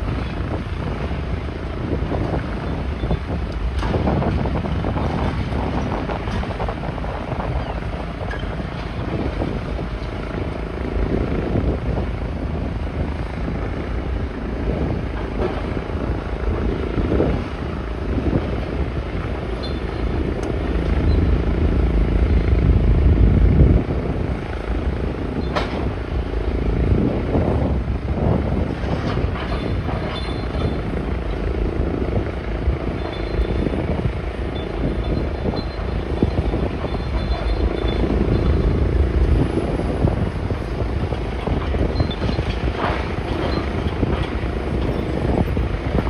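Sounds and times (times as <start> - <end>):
heavy diesel engine rumbling: 0.0 - 46.0.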